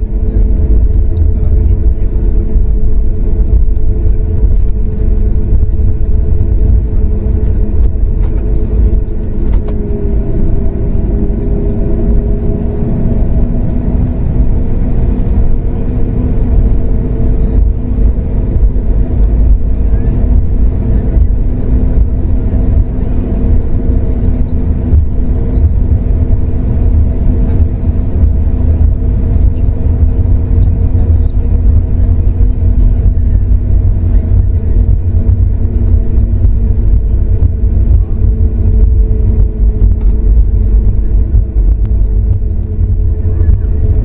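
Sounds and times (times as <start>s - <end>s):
cabin low rumble: 0.0s - 44.0s
jet engines humming: 0.0s - 44.0s.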